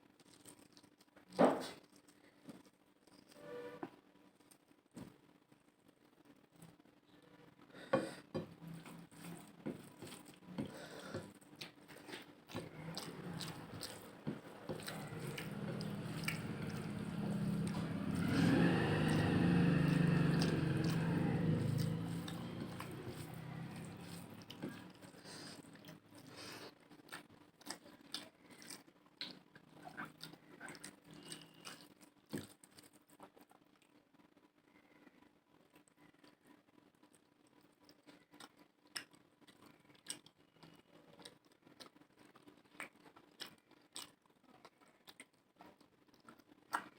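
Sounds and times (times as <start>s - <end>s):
person chewing wetly: 0.2s - 3.3s, 8.4s - 34.0s, 37.0s - 46.9s.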